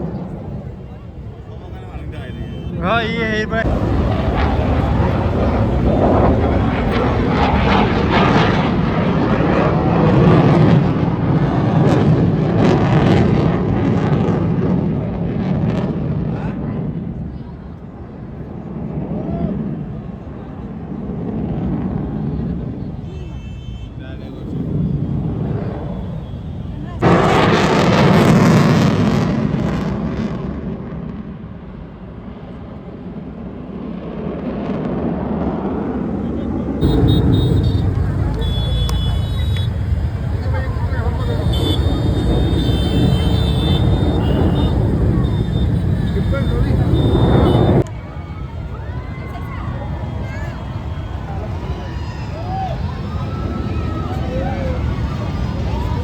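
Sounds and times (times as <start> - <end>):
aircraft engine rushing past: 0.0 - 16.9, 24.0 - 31.2, 32.2 - 56.0.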